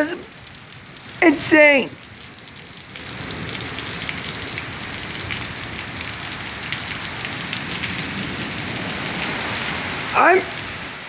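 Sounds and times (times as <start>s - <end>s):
heavy rain pouring: 0.0s - 11.0s
raindrops pattering on surfaces: 0.0s - 11.0s.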